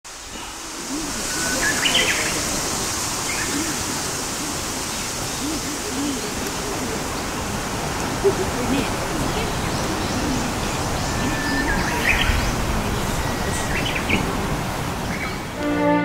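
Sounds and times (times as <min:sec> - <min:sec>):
steady hiss: 0:00.1 - 0:16.0.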